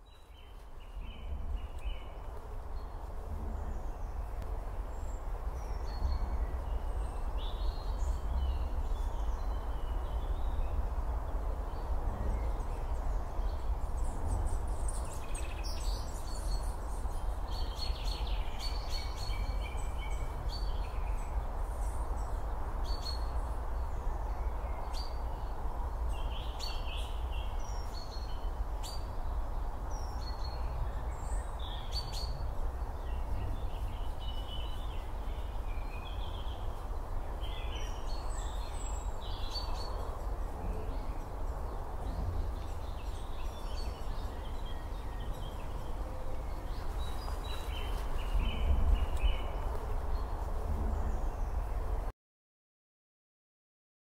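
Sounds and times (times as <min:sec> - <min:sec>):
small birds chirping: 0:00.0 - 0:51.7
low rumble and hiss: 0:00.2 - 0:51.9.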